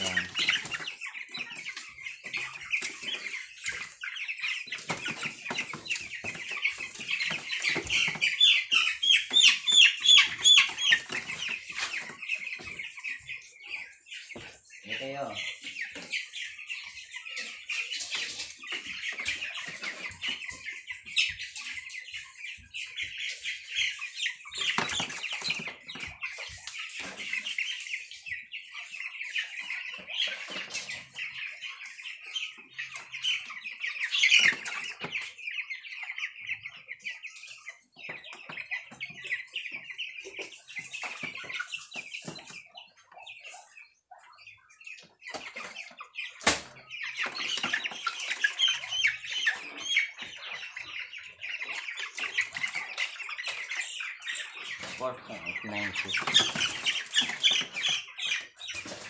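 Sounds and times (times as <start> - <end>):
chickens peeping: 0.0 - 59.0.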